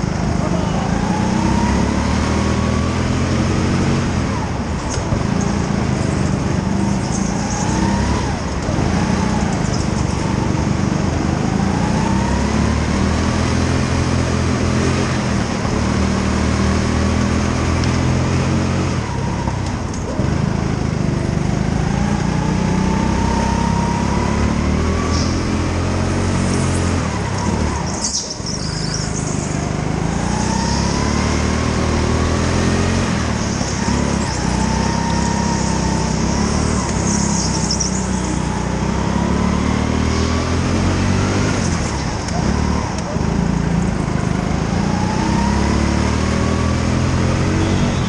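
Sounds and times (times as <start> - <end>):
go-kart engine revving: 0.0 - 48.0.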